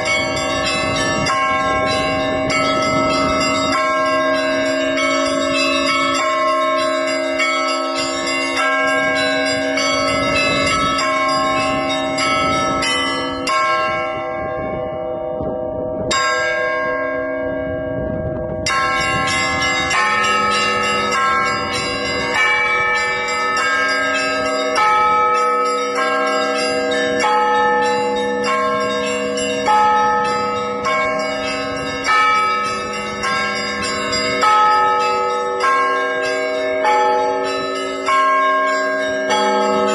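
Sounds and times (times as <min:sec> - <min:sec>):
large church bells ringing: 0:00.0 - 0:39.9
small high church bells: 0:00.0 - 0:39.9.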